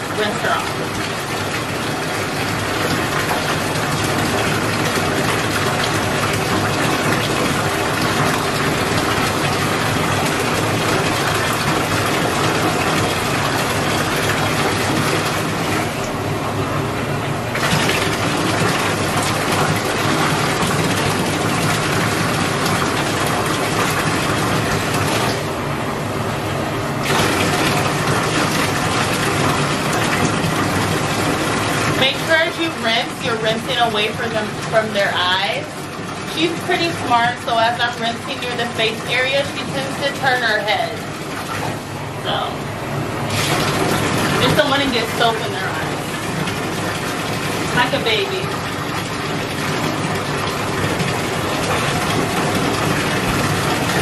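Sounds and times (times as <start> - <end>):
water rushing into bathtub: 0.0 - 54.0.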